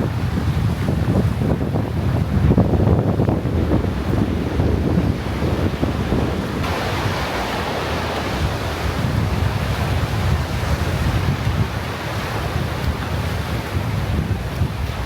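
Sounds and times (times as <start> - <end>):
ocean surf washing onto beach: 0.0 - 15.0
wind buffeting microphone: 0.0 - 15.0.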